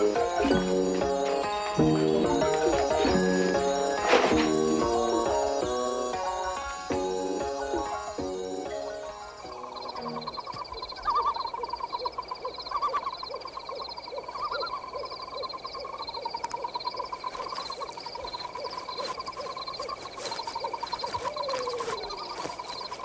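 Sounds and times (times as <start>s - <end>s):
insect-like chirping trills: 0.0s - 23.0s.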